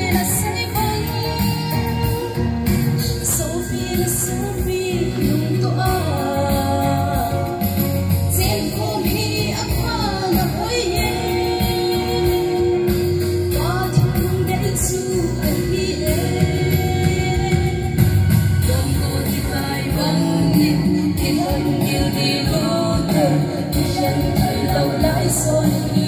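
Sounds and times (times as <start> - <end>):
backing music over loudspeakers: 0.0 - 26.0
person singing live: 0.0 - 26.0.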